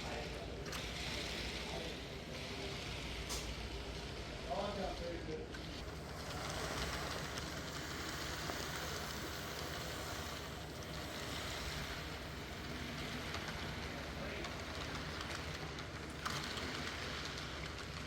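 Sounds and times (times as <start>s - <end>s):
model locomotive rumble and hiss: 0.0s - 18.0s.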